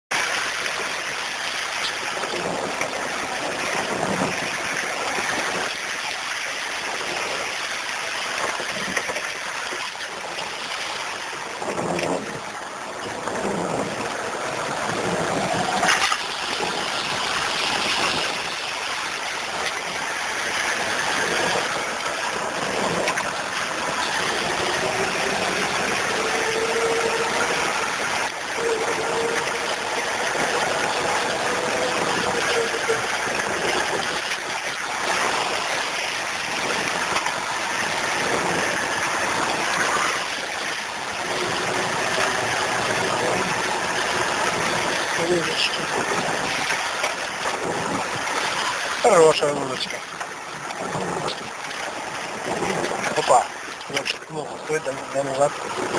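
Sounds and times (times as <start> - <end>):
steady rushing noise: 0.1 - 55.9.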